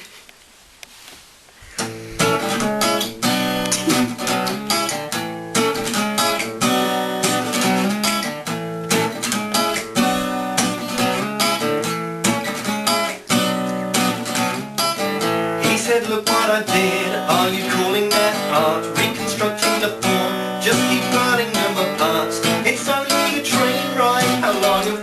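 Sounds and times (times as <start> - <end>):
acoustic guitar strumming: 1.7 - 25.0.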